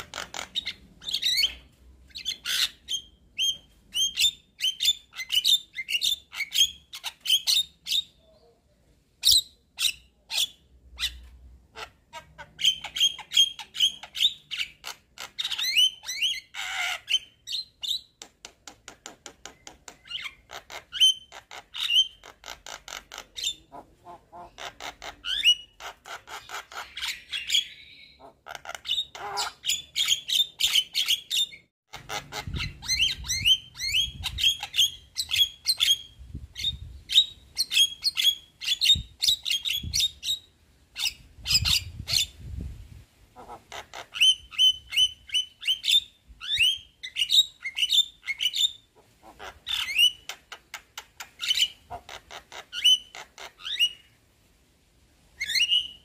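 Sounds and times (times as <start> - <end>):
myna bird chattering: 0.0 - 8.5, 9.2 - 42.4, 43.4 - 54.1.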